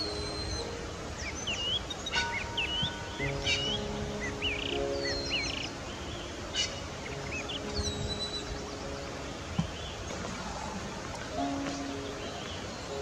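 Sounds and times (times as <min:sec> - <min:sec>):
small birds chirping: 0:00.0 - 0:13.0
soft background music: 0:00.0 - 0:13.0
steady outdoor hiss: 0:00.0 - 0:13.0.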